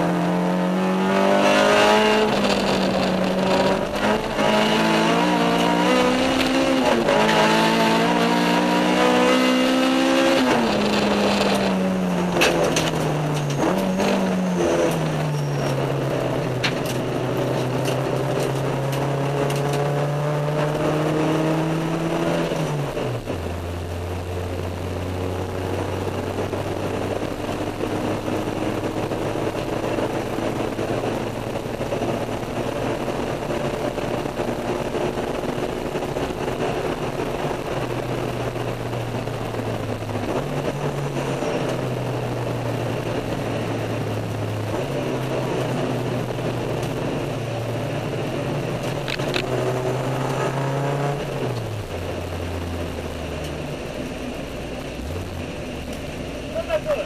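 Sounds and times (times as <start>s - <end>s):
car engine running: 0.0s - 57.0s
road and wind noise: 0.0s - 57.0s.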